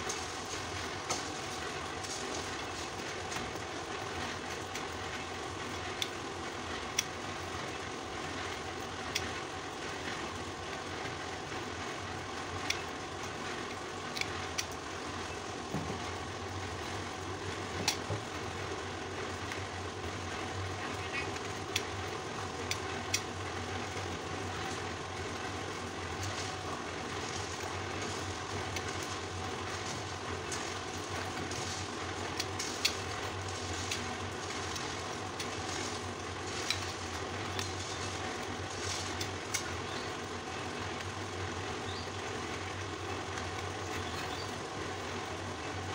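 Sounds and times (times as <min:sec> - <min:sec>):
steady background hum: 0:00.0 - 0:45.9.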